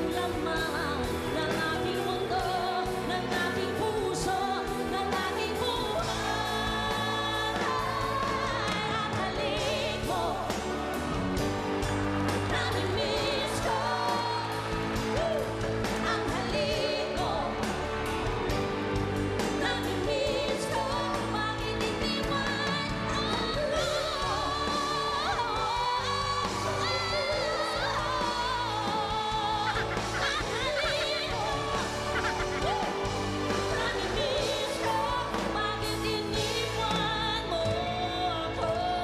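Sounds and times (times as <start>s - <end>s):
woman singing pop ballad: 0.0s - 18.4s, 19.2s - 39.0s
pop band accompaniment: 0.0s - 39.0s.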